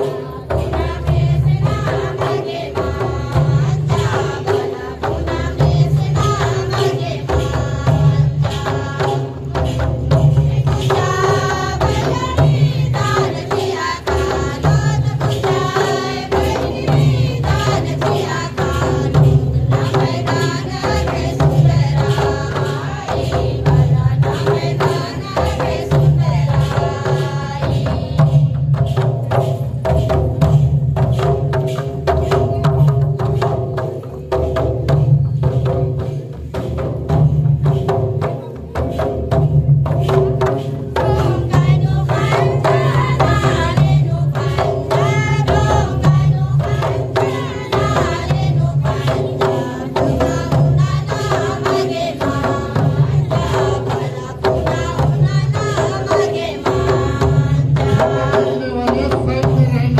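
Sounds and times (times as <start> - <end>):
hand drums beating: 0.0 - 59.9.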